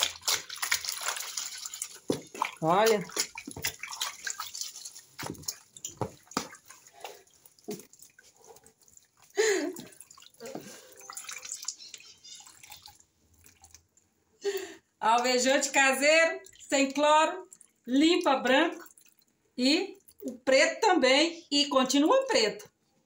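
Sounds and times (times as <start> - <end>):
water dripping off wet clothes: 0.0 - 20.5
water splashing in plastic tub: 0.0 - 20.9.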